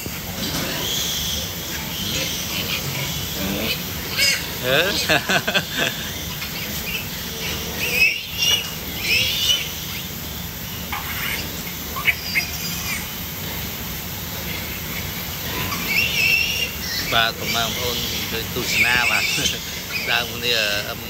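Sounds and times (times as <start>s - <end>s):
piglets squealing: 0.0s - 13.6s, 14.3s - 21.0s
low background hum: 0.0s - 21.0s.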